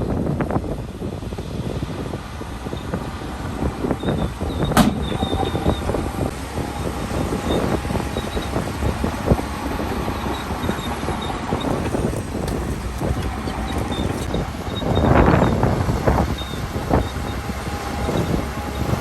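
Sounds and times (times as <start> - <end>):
bulldozer diesel engine under load: 0.0 - 19.0.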